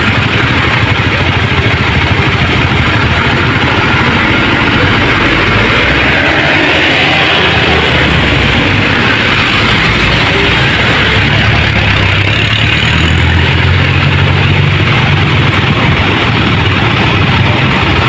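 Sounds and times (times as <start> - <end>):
bus diesel engine low drone: 0.0 - 18.0.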